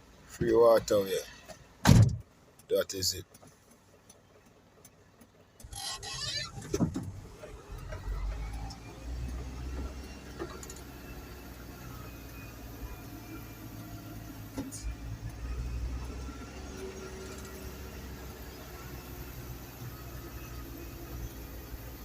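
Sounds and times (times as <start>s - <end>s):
truck engine droning: 4.1s - 22.0s.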